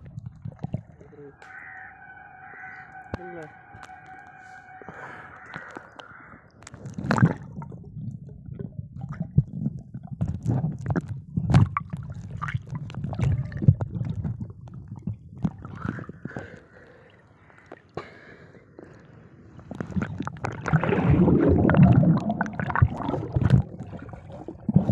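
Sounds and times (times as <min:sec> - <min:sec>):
muffled underwater sloshing: 0:00.0 - 0:24.9.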